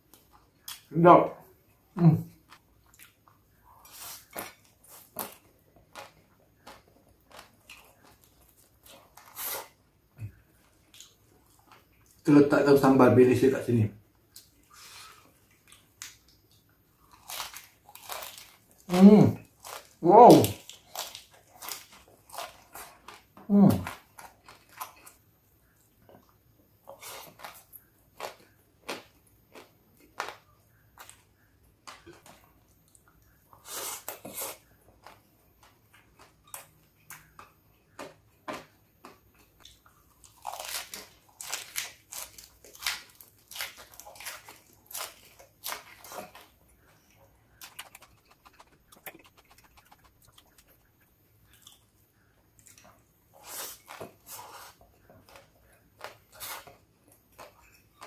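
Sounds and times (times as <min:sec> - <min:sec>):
chewing crunchy fried rice: 0:01.6 - 0:12.8, 0:14.2 - 0:58.0.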